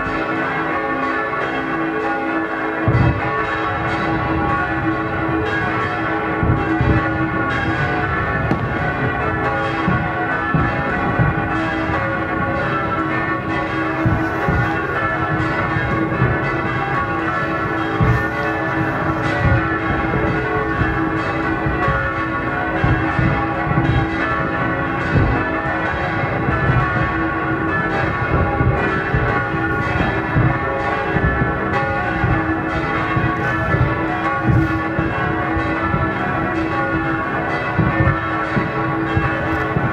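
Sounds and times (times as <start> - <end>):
church bells ringing: 0.0 - 39.9
fireworks booming: 2.7 - 39.9.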